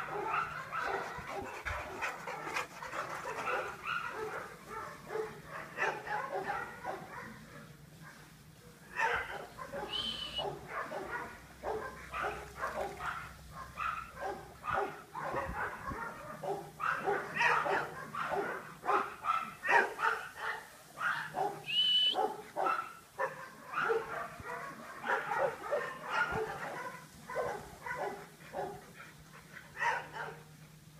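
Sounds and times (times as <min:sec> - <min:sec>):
dogs barking: 0:00.0 - 0:30.6.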